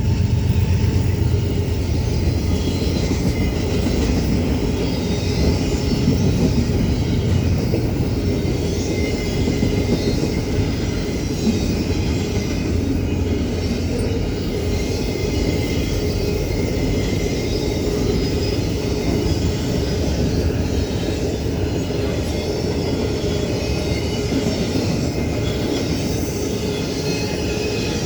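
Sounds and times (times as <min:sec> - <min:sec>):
rumble of wheels on rail: 0:00.0 - 0:28.0.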